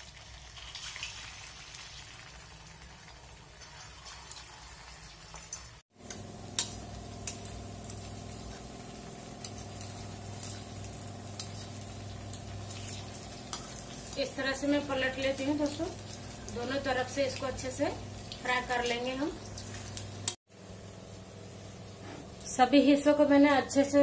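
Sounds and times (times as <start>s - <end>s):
oil sizzling: 0.0s - 24.0s.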